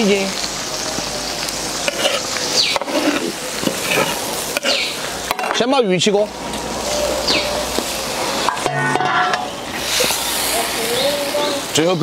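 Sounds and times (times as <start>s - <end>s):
sauce simmering in a wok: 0.0s - 12.0s.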